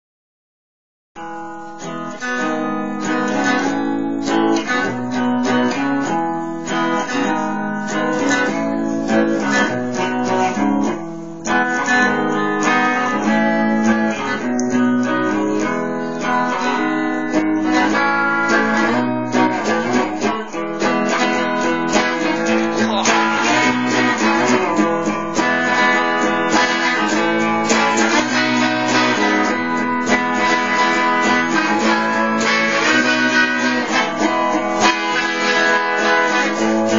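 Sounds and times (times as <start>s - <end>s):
acoustic guitar tune: 1.2s - 36.9s.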